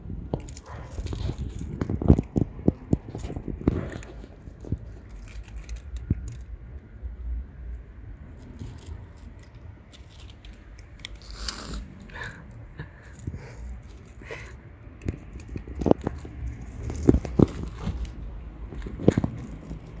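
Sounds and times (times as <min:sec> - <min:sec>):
low background rumble: 0:00.0 - 0:20.0
cats crunching dry kibble: 0:00.2 - 0:20.0.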